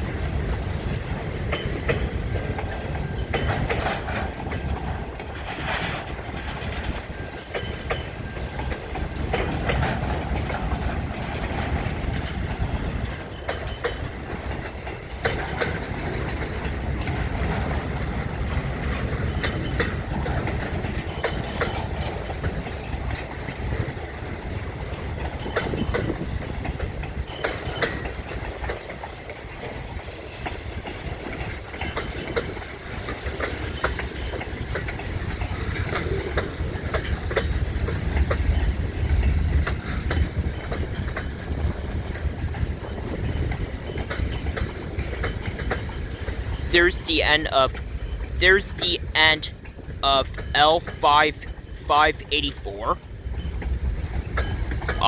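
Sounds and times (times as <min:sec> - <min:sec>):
wheels clacking over rail joints: 0:00.0 - 0:46.7, 0:47.8 - 0:48.4, 0:49.0 - 0:50.5, 0:53.0 - 0:55.0.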